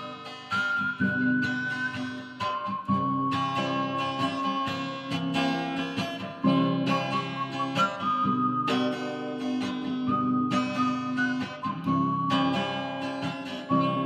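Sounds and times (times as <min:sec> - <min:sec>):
person whistling a melody: 0:00.0 - 0:05.2, 0:06.3 - 0:14.0
strummed acoustic guitar: 0:00.0 - 0:14.0.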